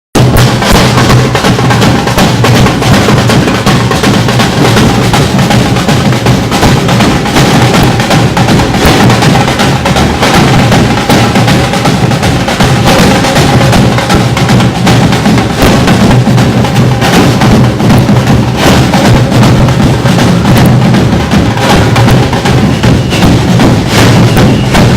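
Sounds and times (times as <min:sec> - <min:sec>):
samba percussion band drumming: 0:00.2 - 0:24.9.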